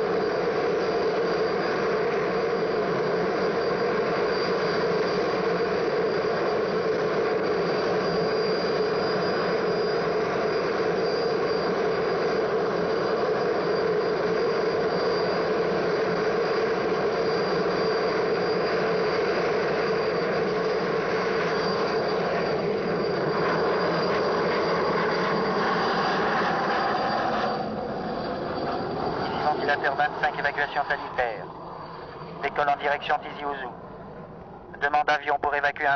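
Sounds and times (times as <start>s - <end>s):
helicopter engine and rotor: 0.0s - 35.9s
thin high whine: 0.0s - 35.9s.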